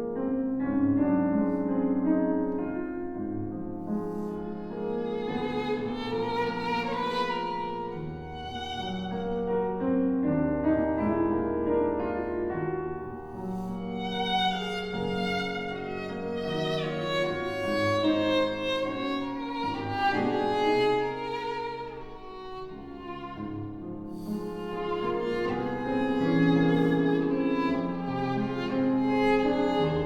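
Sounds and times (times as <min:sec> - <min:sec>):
piano: 0:00.0 - 0:30.0
cello playing: 0:00.1 - 0:30.0
violin playing: 0:03.8 - 0:10.3, 0:12.0 - 0:30.0.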